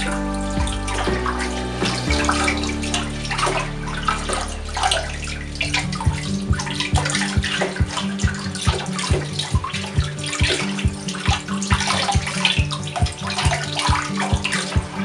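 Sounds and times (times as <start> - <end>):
splashing of rinsed leaves: 0.0 - 15.0.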